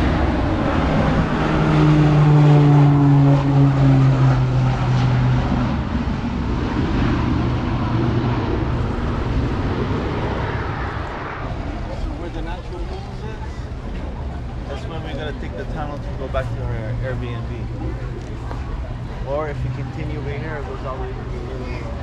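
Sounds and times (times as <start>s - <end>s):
constant rushing noise: 0.0s - 22.0s
passing engine drone: 0.0s - 22.0s.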